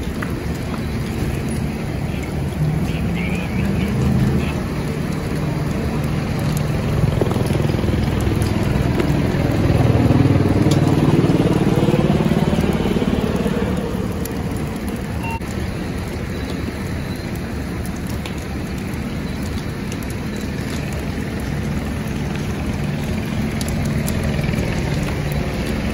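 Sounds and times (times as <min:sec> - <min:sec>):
burning debris crackling: 0:00.0 - 0:25.9
fire engine diesel engine: 0:00.0 - 0:25.9.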